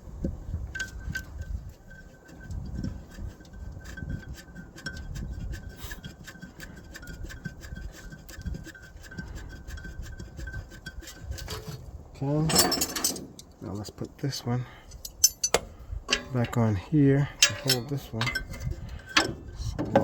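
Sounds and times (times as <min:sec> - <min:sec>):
scraping and handling noise: 0:00.0 - 0:20.0
hand tools clicking on metal: 0:00.7 - 0:13.9, 0:14.9 - 0:20.0.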